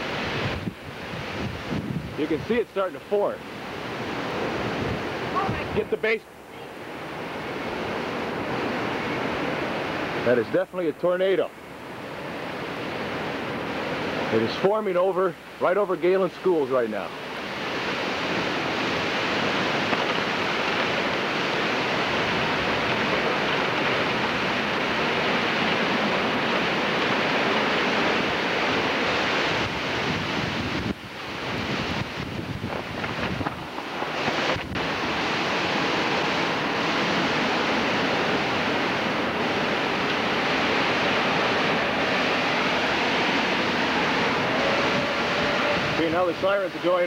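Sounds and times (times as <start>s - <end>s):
strong wind on microphone: 0.0s - 2.6s, 3.2s - 6.0s, 6.6s - 10.3s, 17.2s - 47.0s.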